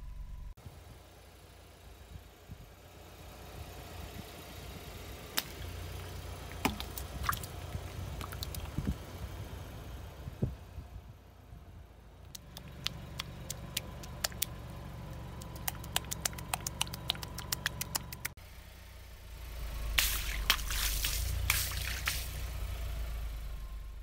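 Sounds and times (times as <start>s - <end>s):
car engine running low: 0.0s - 24.0s.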